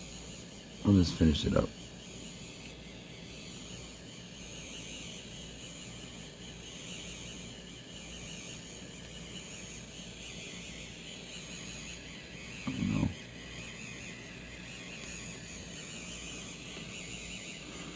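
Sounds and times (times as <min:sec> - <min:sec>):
small motor whining: 0:00.0 - 0:17.9.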